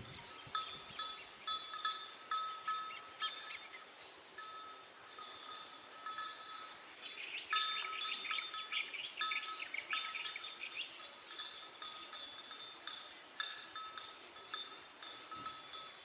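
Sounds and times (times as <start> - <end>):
birds chirping: 0.0 - 4.5, 5.2 - 16.0.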